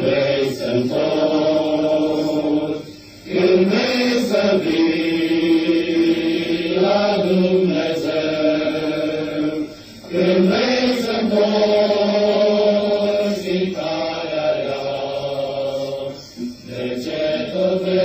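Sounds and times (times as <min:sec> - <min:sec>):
men's choir singing a hymn: 0:00.0 - 0:18.0.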